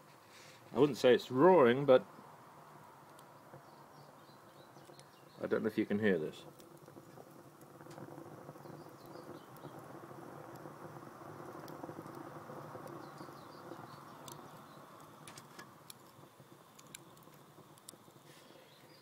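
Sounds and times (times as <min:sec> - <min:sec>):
stove draft rumble: 0:00.0 - 0:19.0
wood crackling: 0:00.0 - 0:19.0.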